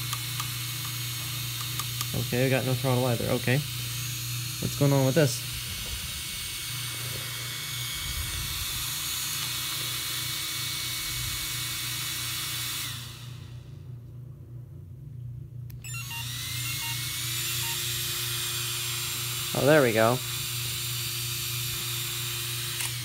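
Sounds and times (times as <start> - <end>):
cooling fan whirring: 0.0 - 23.0.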